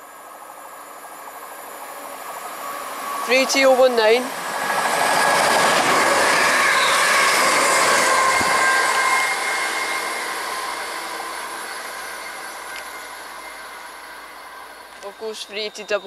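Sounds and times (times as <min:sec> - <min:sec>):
electric whine: 0:00.0 - 0:16.0
train wheels rushing on rail: 0:00.0 - 0:16.0.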